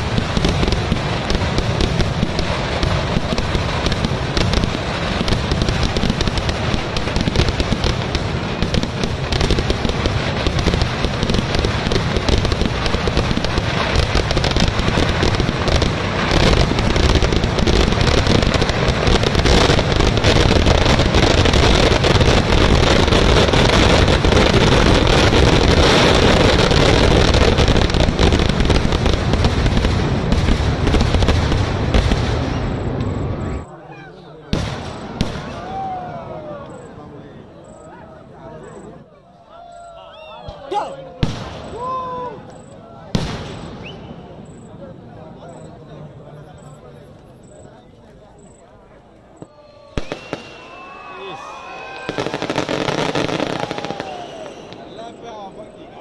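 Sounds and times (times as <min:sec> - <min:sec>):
fireworks bangs and crackling: 0:00.0 - 0:37.8, 0:40.4 - 0:56.0.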